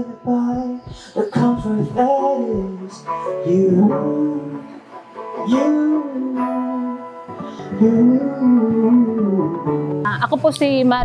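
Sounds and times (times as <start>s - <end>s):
man singing: 0.0s - 10.0s
acoustic guitar: 0.0s - 11.0s.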